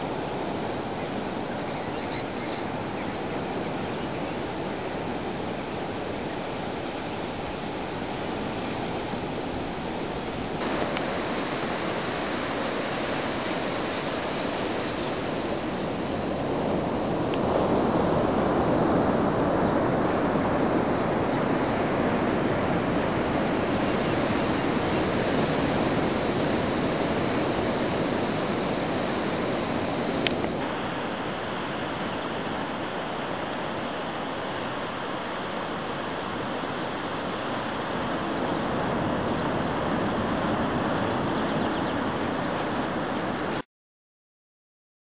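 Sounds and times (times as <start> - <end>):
ocean waves breaking on beach: 0.0 - 43.6.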